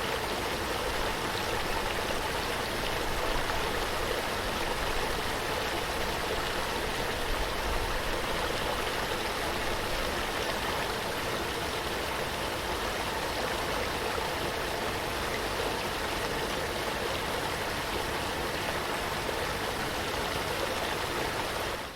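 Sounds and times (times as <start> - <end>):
stream water flowing: 0.0 - 21.9.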